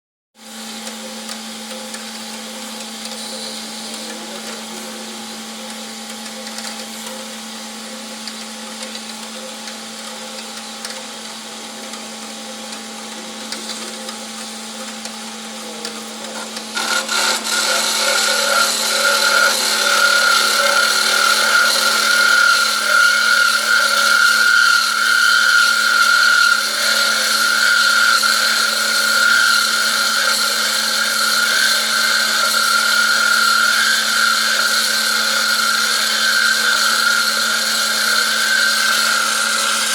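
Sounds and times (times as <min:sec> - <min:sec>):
band saw running: 0:00.4 - 0:39.9.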